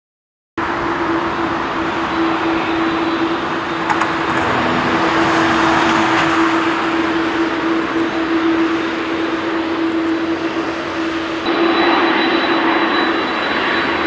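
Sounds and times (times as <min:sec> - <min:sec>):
jet engines humming at low power: 0:00.6 - 0:14.0
faint high whistle: 0:00.8 - 0:14.0.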